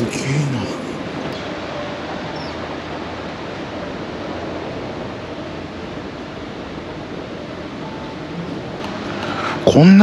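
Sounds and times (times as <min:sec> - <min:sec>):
rushing hiss of hall ambience: 0:00.0 - 0:10.0.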